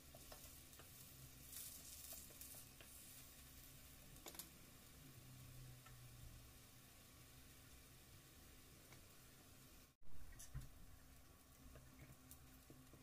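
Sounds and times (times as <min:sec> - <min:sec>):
fritters sizzling in oil: 0:00.0 - 0:13.0.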